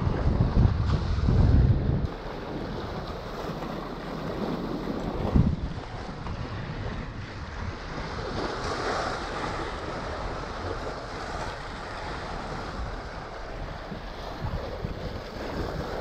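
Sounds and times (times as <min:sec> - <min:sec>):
wind buffeting microphone: 0:00.0 - 0:16.0
sea water washing: 0:02.0 - 0:16.0.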